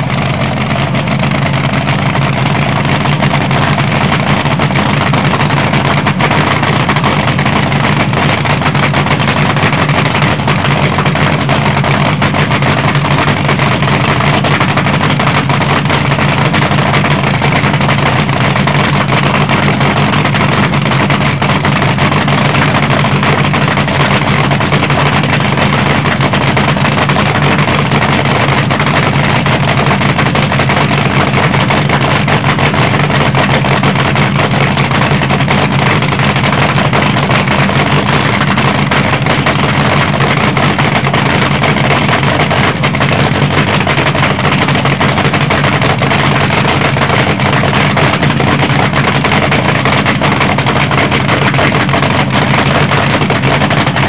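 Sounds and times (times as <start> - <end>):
dragster engine idling: 0.0 - 54.0.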